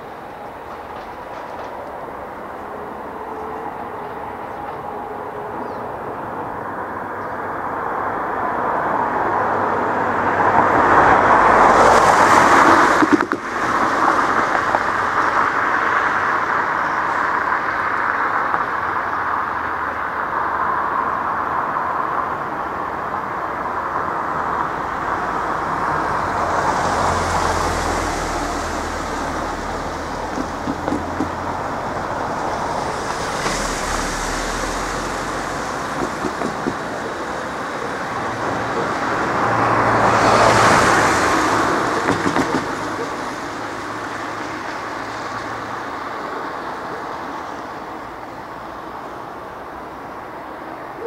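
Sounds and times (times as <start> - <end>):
vehicles driving past: 0.0 - 51.0.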